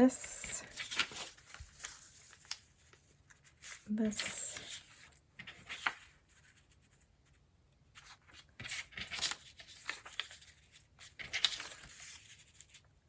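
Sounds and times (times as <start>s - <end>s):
paper sheets rustling: 0.0s - 7.0s, 7.9s - 12.9s.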